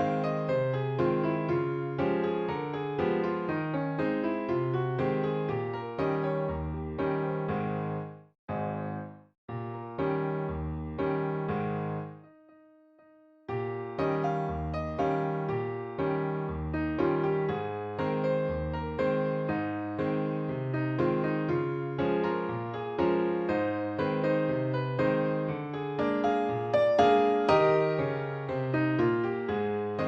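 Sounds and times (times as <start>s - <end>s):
piano-like melody: 0.0s - 30.0s.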